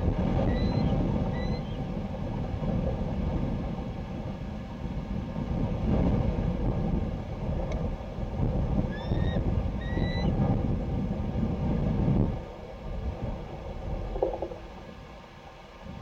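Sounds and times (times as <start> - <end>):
wind gusting against microphone: 0.0 - 16.0.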